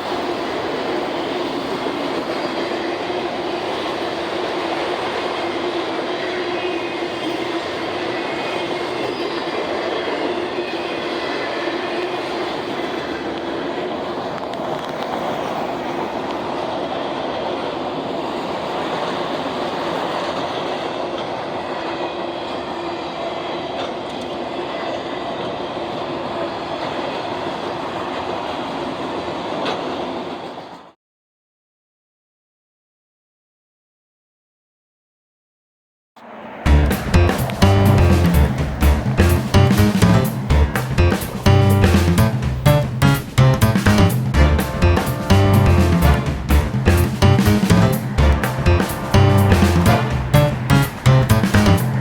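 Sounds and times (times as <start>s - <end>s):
freight train rumbling on rails: 0.0s - 30.9s, 36.6s - 52.0s.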